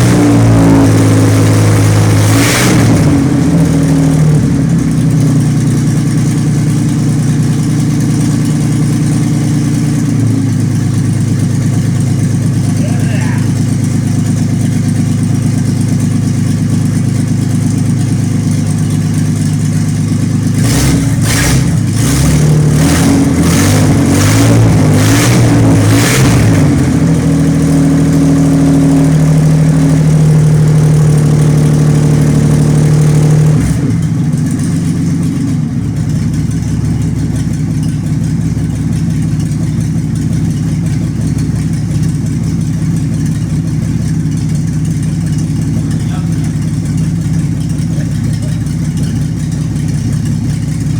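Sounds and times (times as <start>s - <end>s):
car engine revving and idling: 0.0s - 50.9s.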